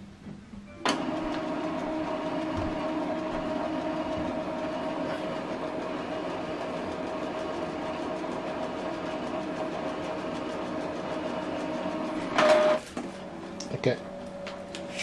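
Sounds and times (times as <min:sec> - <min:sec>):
printer mechanical whir: 0:00.8 - 0:15.0.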